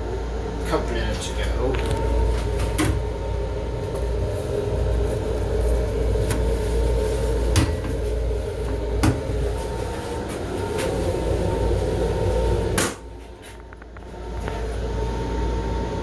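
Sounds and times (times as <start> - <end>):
train rumble and hum: 0.0 - 16.0.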